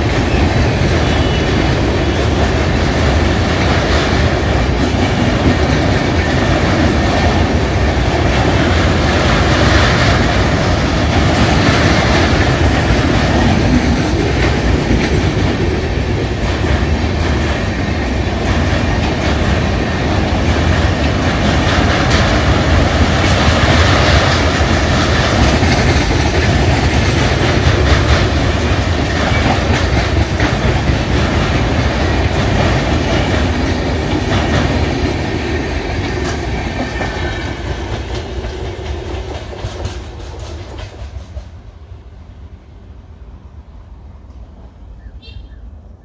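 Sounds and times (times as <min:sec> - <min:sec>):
wheels clicking over rail joints: 0:00.0 - 0:41.6
train wheels rumbling on rails: 0:00.0 - 0:45.6.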